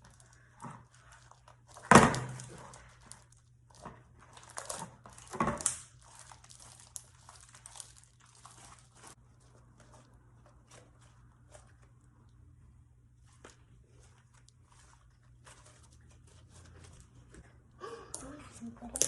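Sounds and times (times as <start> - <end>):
slime squishing and crackling: 0.0 - 12.5, 13.1 - 17.0.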